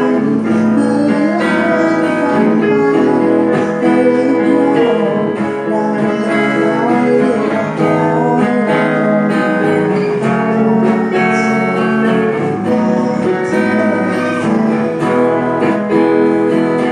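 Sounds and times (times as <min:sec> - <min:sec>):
strummed acoustic guitar music: 0:00.0 - 0:16.9.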